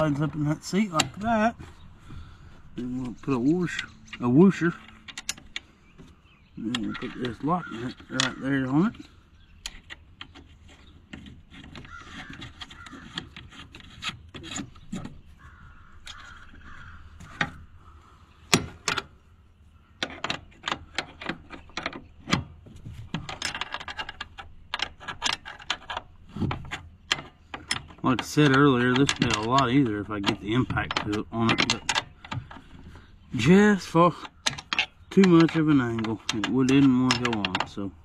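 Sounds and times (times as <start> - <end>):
light metal clicks and scraping: 0.0 - 17.7, 20.0 - 38.0.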